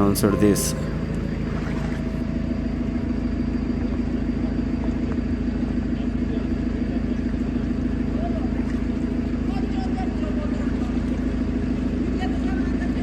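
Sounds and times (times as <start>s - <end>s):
low mechanical rumble and hum: 0.0s - 13.0s.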